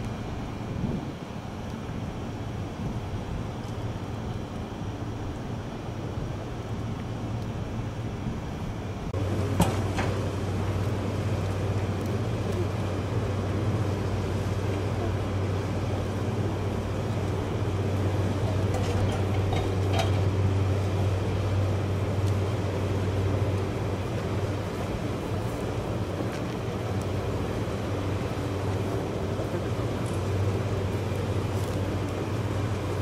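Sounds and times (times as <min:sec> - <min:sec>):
low hum of train equipment: 0:00.0 - 0:33.0.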